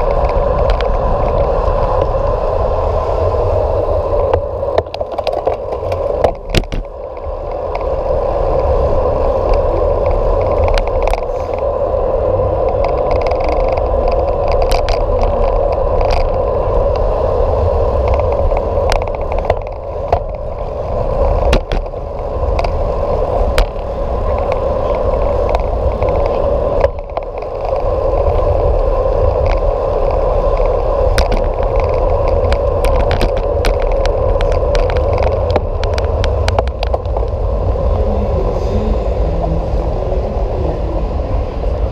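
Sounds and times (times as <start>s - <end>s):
bicycle clicks and rattles: 0.0s - 41.9s
bicycle tyres on paved road: 0.0s - 41.9s
wind noise: 0.0s - 41.9s.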